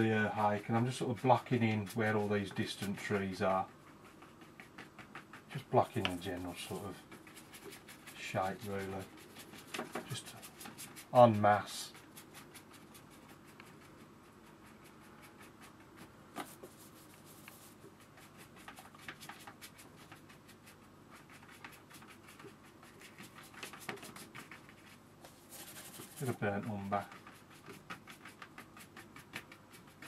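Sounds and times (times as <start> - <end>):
brush strokes on paper: 0.0 - 30.0.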